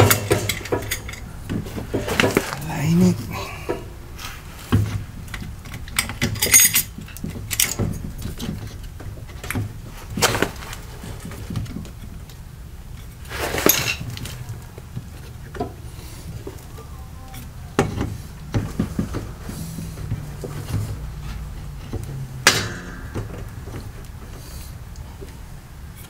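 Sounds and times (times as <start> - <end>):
hands scraping metal clamps: 0.0 - 11.9, 13.0 - 14.5, 15.5 - 26.0.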